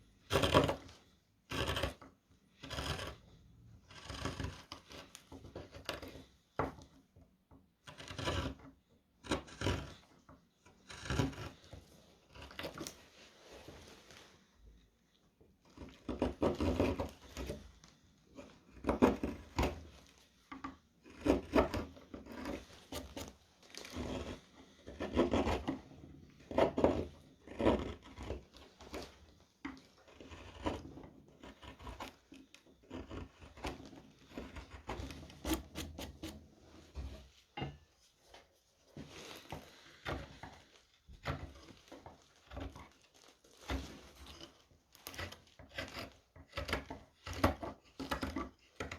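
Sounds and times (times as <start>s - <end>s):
gouge scraping wood: 0.2s - 6.3s, 7.8s - 14.2s, 15.6s - 37.3s, 38.9s - 48.9s.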